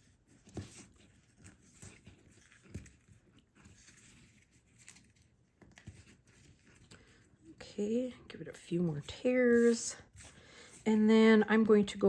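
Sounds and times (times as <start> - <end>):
parchment paper crackling: 0.0 - 12.0.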